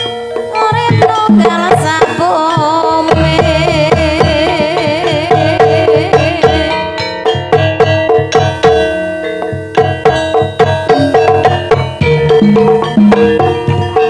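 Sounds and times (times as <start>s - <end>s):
hand drum strokes: 0.0s - 14.0s
ringing metallophone tones: 0.0s - 14.0s.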